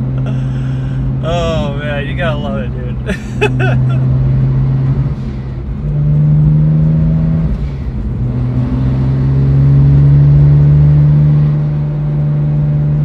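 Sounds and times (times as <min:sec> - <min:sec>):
car engine pulling under load: 0:00.0 - 0:12.9.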